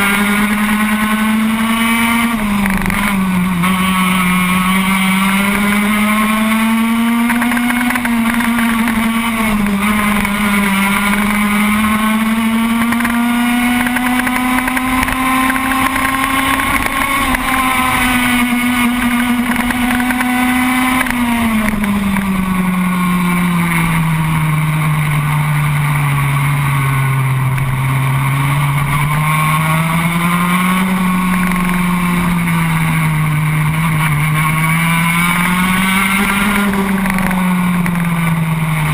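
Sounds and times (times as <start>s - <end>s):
racing kart engine running hard: 0.0s - 38.9s.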